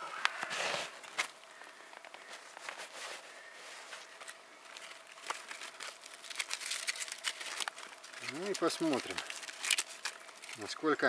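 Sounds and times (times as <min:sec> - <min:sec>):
bark crinkling and rustling: 0:02.0 - 0:11.0.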